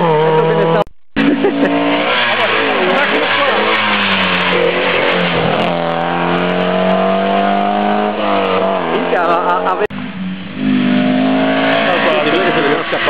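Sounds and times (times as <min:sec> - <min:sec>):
rally car engine passing at full throttle: 0:00.0 - 0:13.0
rally car engine revving approaching: 0:00.0 - 0:13.0.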